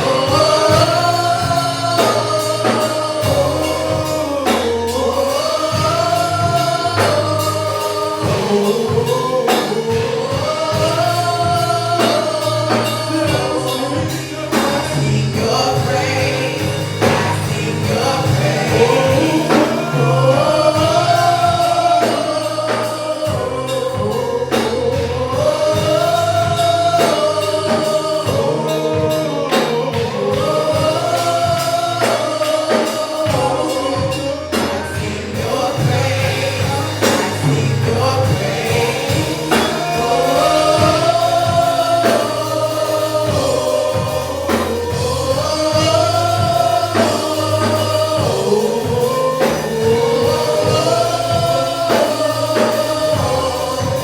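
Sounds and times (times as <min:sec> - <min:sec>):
band with bass and drums: 0:00.0 - 0:54.0
gospel choir singing: 0:00.0 - 0:54.0.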